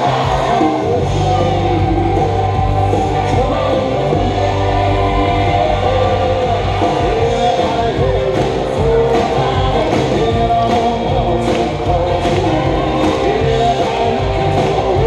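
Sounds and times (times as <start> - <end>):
loud music with singing: 0.0 - 15.0
low bass line: 0.0 - 15.0.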